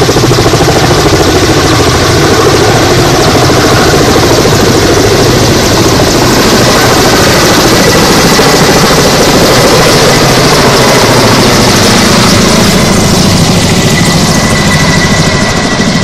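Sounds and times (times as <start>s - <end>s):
helicopter rotor chop and turbine: 0.0s - 16.0s.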